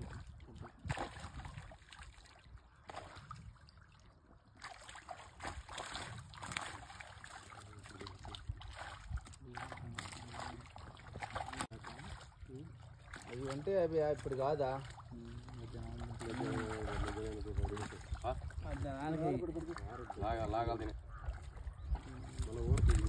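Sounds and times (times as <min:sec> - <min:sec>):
muddy water splashing: 0:00.0 - 0:23.0.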